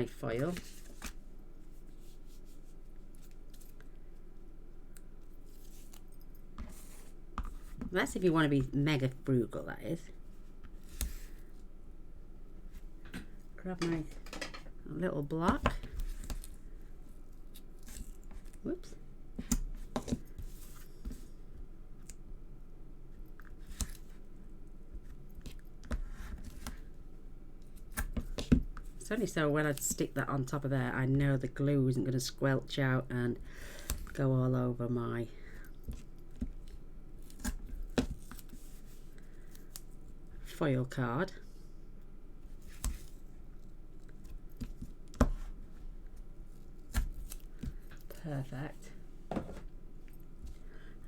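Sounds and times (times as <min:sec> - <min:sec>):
low steady background hum: 0:00.0 - 0:51.0.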